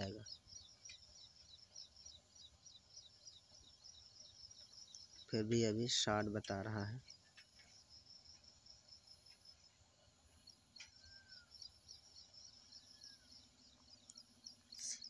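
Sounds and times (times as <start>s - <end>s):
high-pitched insect chirping: 0.0s - 15.0s.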